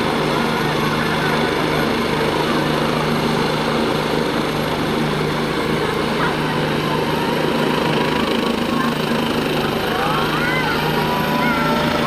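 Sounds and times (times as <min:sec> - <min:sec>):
helicopter engine and rotors hum: 0:00.0 - 0:12.0.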